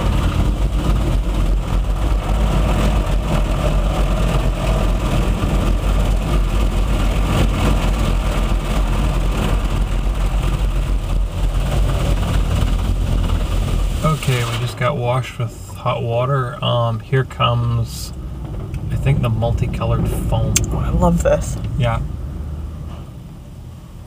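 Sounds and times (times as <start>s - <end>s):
low rumble: 0.0s - 24.0s
water jets spraying car: 0.0s - 24.0s.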